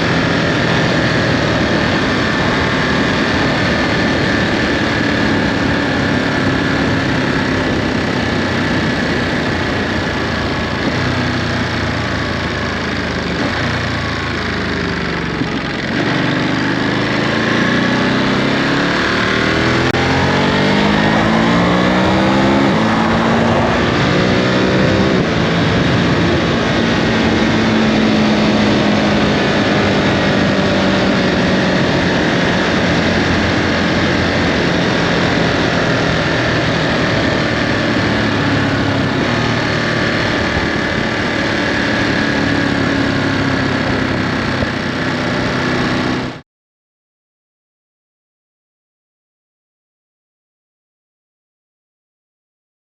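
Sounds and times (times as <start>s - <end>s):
motorcycle engine while riding: 0.0s - 46.4s.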